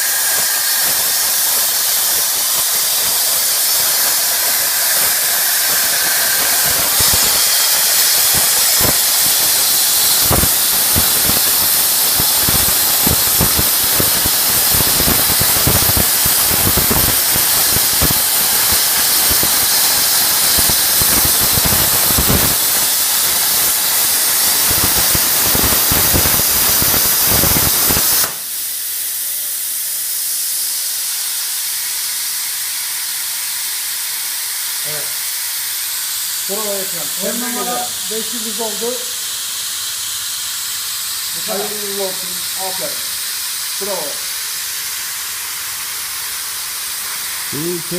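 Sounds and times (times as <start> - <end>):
plasma cutter hissing and crackling: 0.0 - 47.9.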